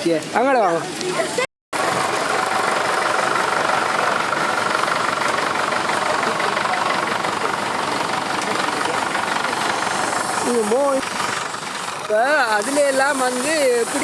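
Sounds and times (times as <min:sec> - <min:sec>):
engine idling: 0:01.2 - 0:14.0.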